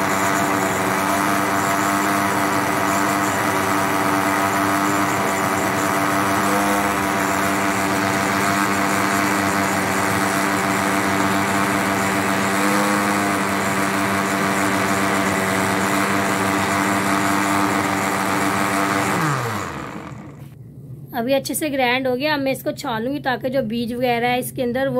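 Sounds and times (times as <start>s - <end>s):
blender motor running: 0.0s - 20.6s
motor winding down: 0.0s - 20.6s.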